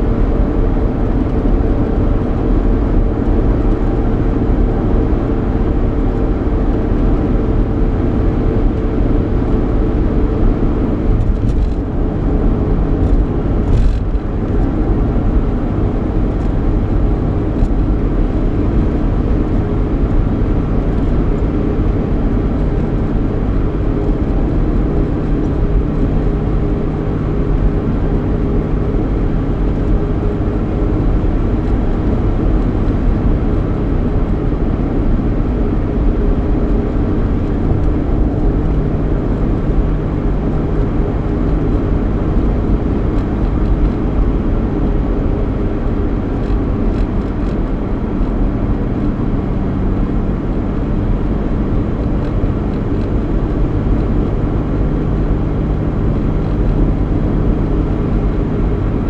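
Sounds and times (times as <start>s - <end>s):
car engine hum: 0.0s - 59.0s
road and tyre rumble: 0.0s - 59.0s.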